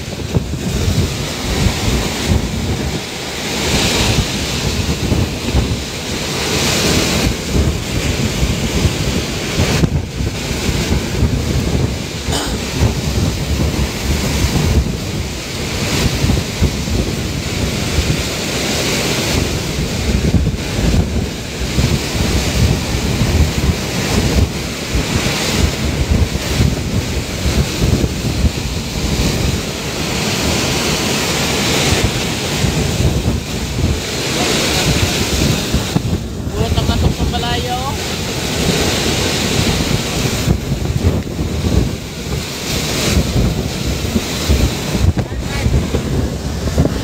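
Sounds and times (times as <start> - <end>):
heavy rain: 0.0 - 47.0
strong gusting wind: 0.0 - 47.0.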